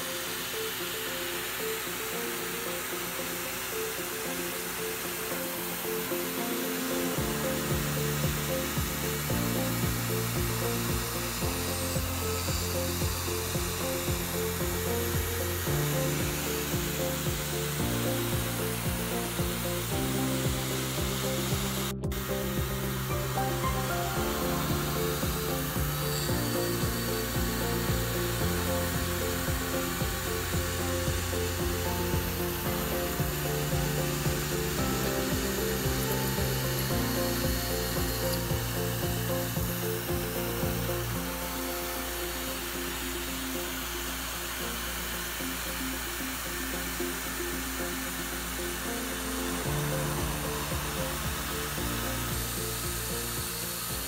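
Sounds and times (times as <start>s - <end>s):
background music: 0.0s - 54.0s
mill cutting aluminium: 0.0s - 54.0s.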